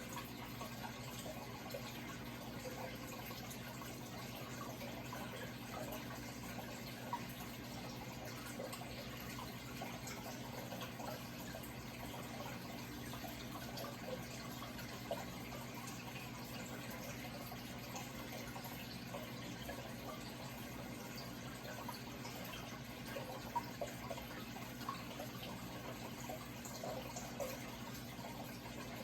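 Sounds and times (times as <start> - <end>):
running trickling water: 0.0 - 29.0
water drips and splashes: 0.0 - 29.0.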